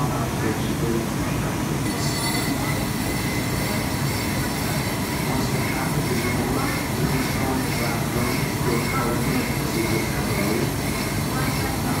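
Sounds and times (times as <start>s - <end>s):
factory machinery rumble: 0.0s - 12.0s
faint wavering high whine: 1.8s - 12.0s.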